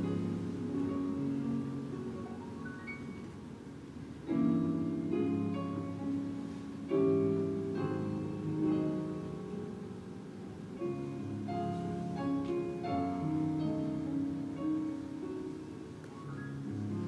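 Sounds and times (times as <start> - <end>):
slow gentle instrumental music: 0.0 - 17.0.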